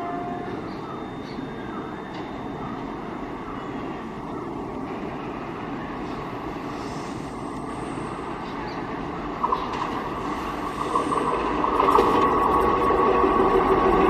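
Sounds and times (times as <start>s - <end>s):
steady high-pitched tone: 0.0s - 14.0s
train running: 0.0s - 14.0s.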